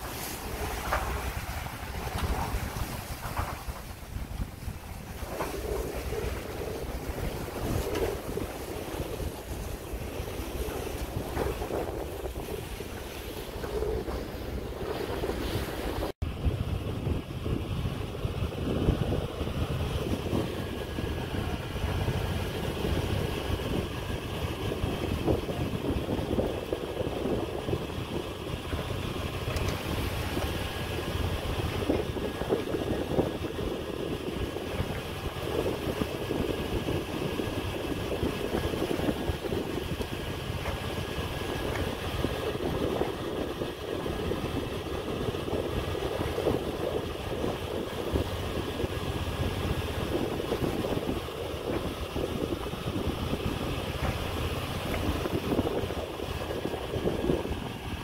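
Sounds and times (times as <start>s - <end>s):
sailboat running noise at sea: 0.0s - 58.0s.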